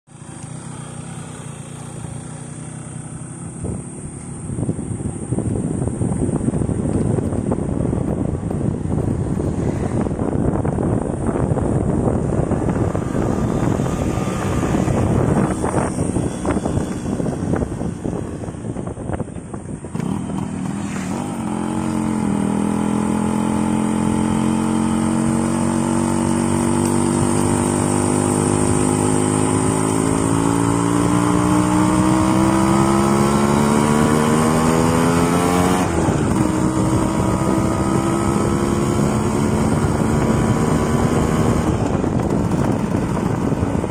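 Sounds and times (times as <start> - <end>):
motorcycle engine accelerating: 0.1 - 43.9
wind rush over microphone: 3.4 - 43.9.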